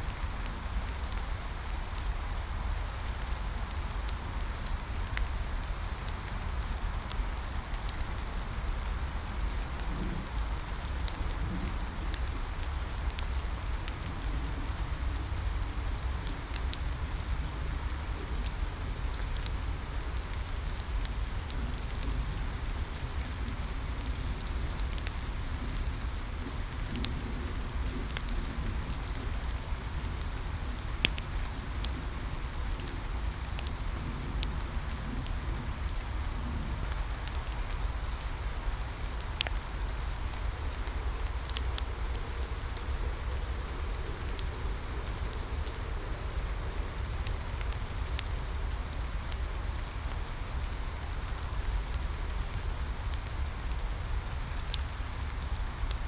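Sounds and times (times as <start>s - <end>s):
bonfire crackling and popping: 0.0s - 56.0s
steady rain falling: 0.0s - 56.0s.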